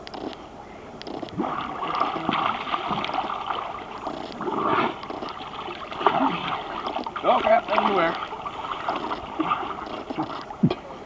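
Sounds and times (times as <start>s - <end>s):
pool water splashing: 1.2s - 11.0s.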